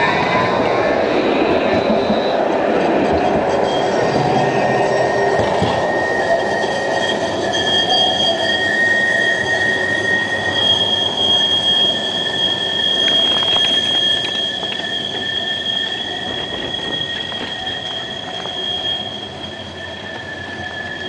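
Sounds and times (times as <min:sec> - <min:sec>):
tram wheels squealing: 0:00.0 - 0:21.0
wheels running noise: 0:00.0 - 0:21.0.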